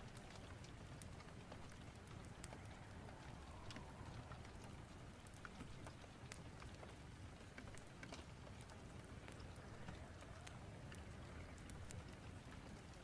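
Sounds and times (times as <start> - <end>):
faint steady rain: 0.0 - 13.0.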